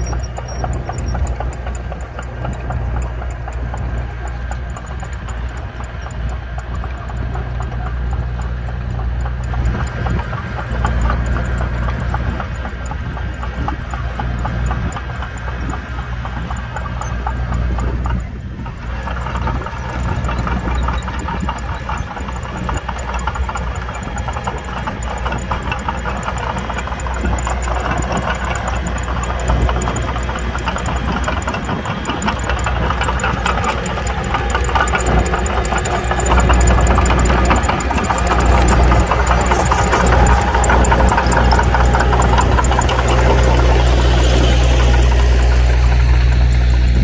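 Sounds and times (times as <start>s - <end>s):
bulldozer diesel engine running: 0.0s - 47.0s.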